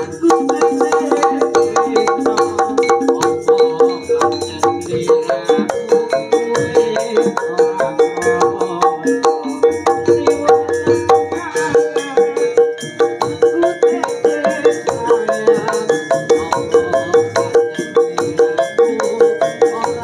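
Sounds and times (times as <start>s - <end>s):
gamelan ensemble playing: 0.0s - 20.0s.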